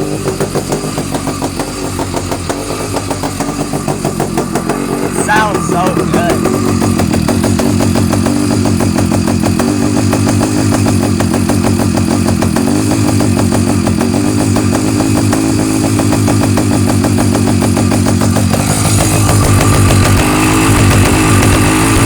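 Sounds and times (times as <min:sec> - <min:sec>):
motorbike engine idling: 0:00.0 - 0:22.0.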